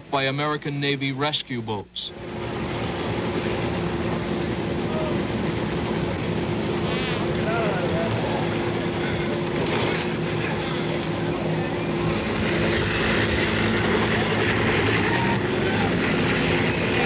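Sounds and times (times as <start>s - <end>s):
helicopter turbine and rotor: 0.0s - 17.0s.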